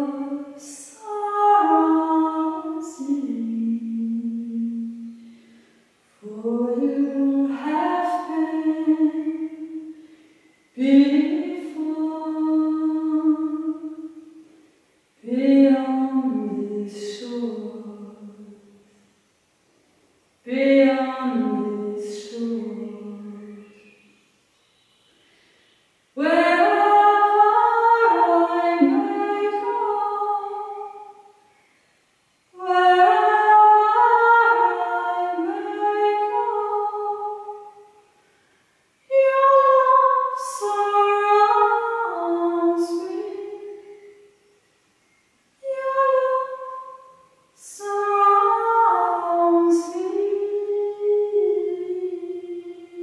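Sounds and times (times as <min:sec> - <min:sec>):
woman singing unaccompanied: 0:00.0 - 0:05.4, 0:06.2 - 0:14.5, 0:15.2 - 0:18.9, 0:20.4 - 0:24.2, 0:26.2 - 0:31.5, 0:32.5 - 0:38.0, 0:39.0 - 0:44.3, 0:45.6 - 0:53.0.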